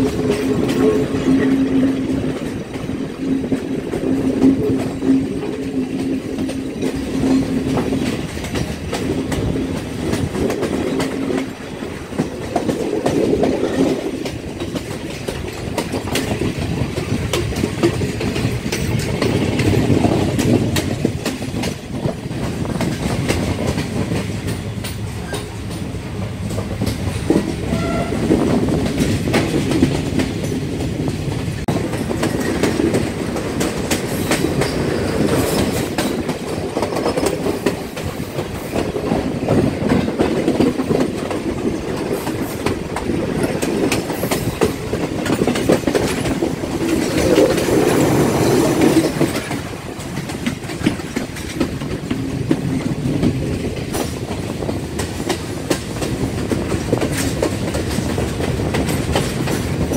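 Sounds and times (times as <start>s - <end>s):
train rumble with wheels clattering: 0.0s - 59.9s.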